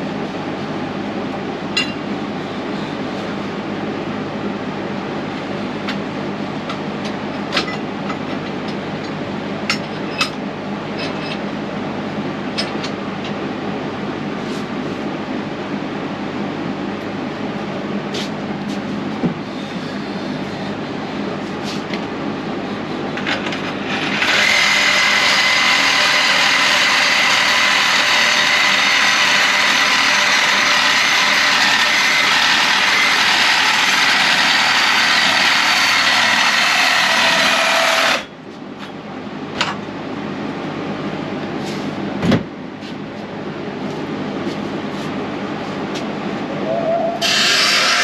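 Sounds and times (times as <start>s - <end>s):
shop hum: 0.0s - 48.0s.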